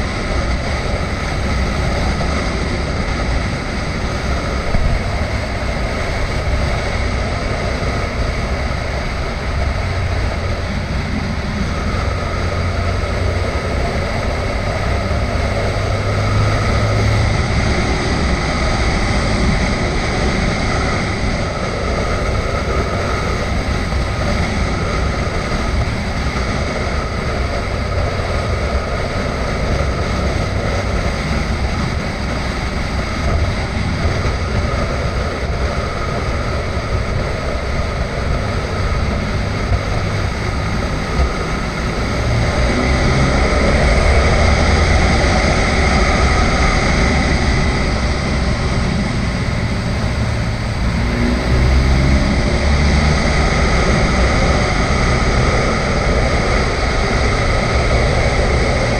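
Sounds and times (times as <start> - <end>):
motorcycle engine drone: 0.0 - 58.9
rush of noise: 0.0 - 58.9.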